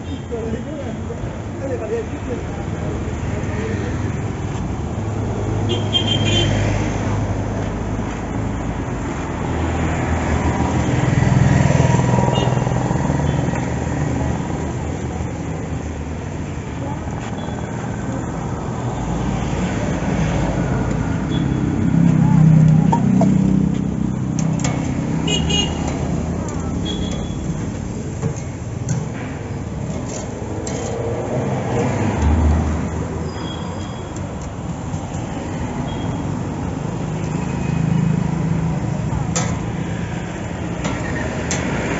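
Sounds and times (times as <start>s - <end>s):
road traffic noise: 0.0s - 41.9s
vehicle engines running: 6.7s - 41.9s.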